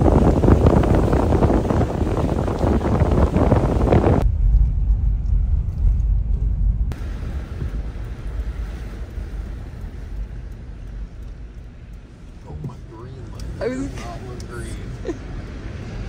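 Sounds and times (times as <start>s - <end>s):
wind rush on microphone: 0.0s - 13.8s
low road rumble: 0.0s - 16.0s.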